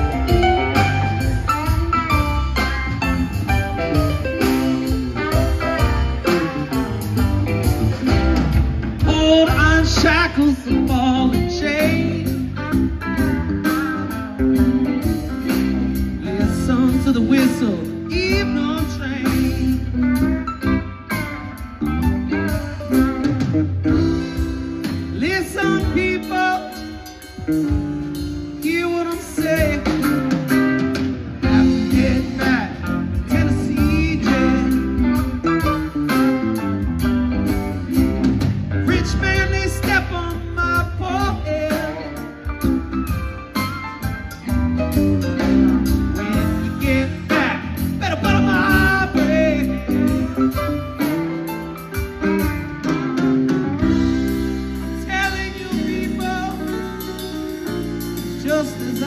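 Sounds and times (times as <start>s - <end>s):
guitar lead with bent notes: 0.0s - 59.0s
live rock band playing: 0.0s - 59.0s.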